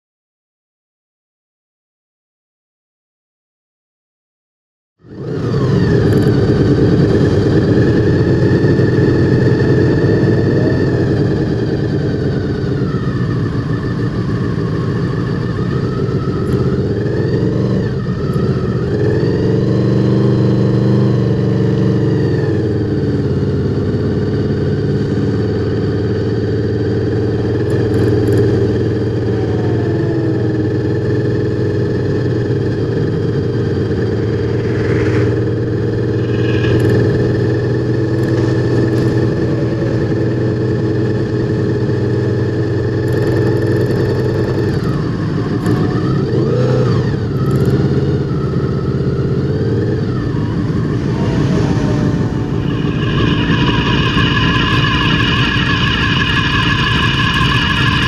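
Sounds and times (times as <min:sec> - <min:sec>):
motorcycle engine running: 0:05.0 - 0:58.0.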